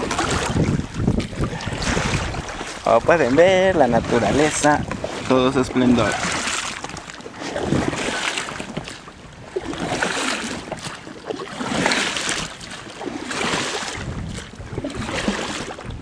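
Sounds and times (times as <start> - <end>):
paddle splashing in water: 0.0 - 16.0.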